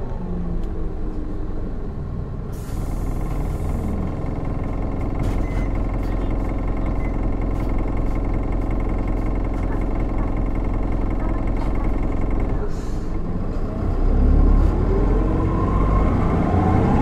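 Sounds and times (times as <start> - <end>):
bus engine whine: 0.0 - 17.0.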